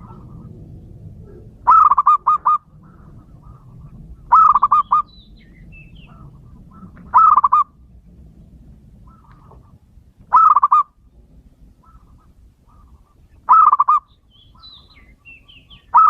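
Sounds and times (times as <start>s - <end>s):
bird chirping: 0.0s - 7.7s, 9.0s - 16.0s
dove cooing: 0.0s - 7.8s, 9.0s - 11.0s, 11.6s - 16.0s.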